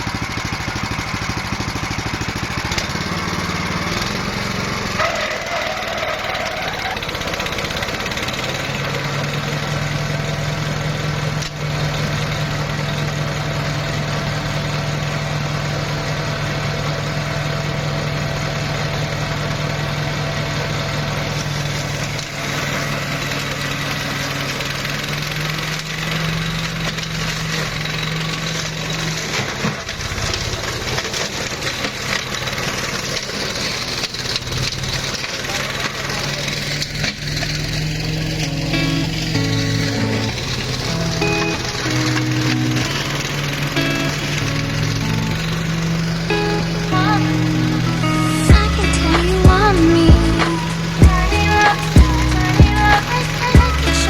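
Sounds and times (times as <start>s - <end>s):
mower petrol engine running: 0.0s - 54.0s.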